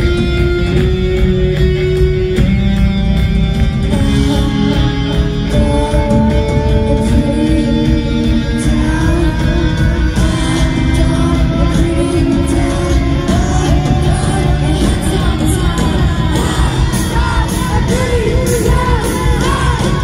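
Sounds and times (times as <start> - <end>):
bass guitar: 0.0 - 20.0
electric guitars holding notes: 0.0 - 20.0.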